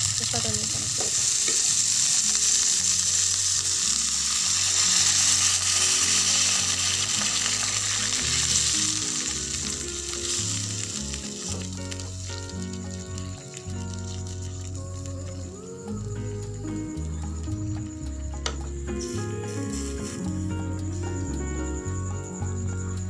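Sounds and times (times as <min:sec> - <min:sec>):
vegetables sizzling in hot oil: 0:00.0 - 0:23.0
light background music: 0:00.1 - 0:23.0.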